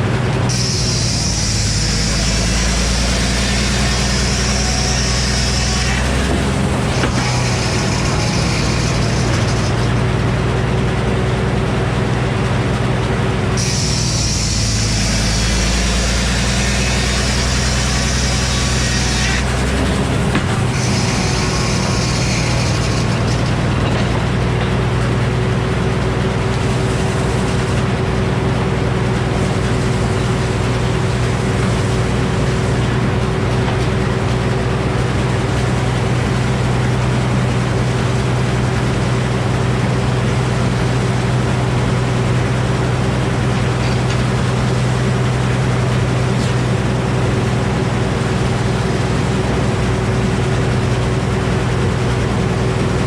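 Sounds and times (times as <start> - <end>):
sawmill machine drone: 0.0 - 53.0.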